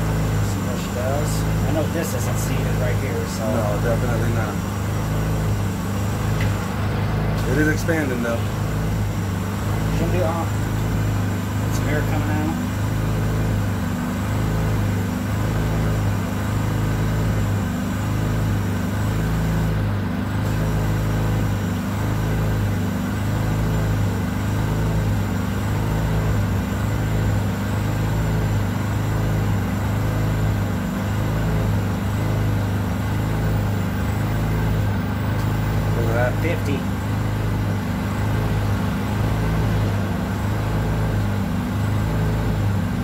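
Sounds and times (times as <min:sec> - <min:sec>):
machine humming: 0:00.0 - 0:43.0.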